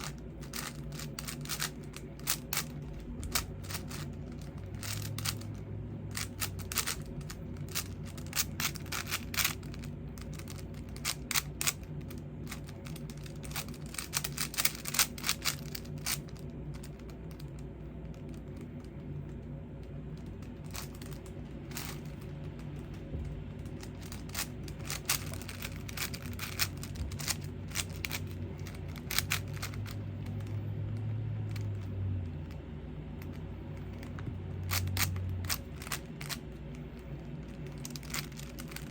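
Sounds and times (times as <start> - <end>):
puzzle cube clicking and clacking: 0.0 - 19.1, 20.2 - 32.6, 33.2 - 38.9
steady low hum: 0.0 - 38.9.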